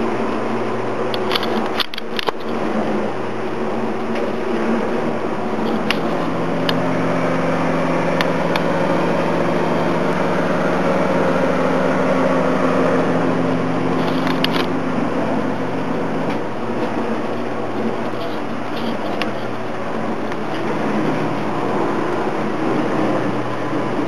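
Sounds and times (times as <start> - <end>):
broad rushing noise: 0.0 - 24.0
mechanical hum with low tones: 0.0 - 24.0.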